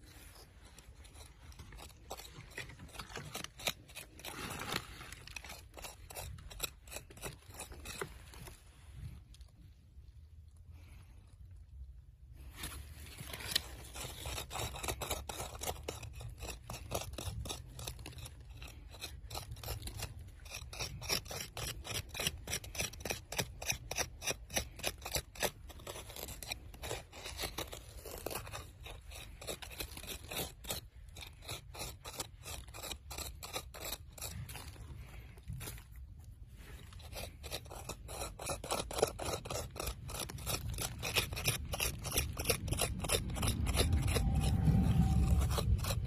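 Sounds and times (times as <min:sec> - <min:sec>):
hand tool scraping soil: 0:00.0 - 0:09.8, 0:12.4 - 0:46.0.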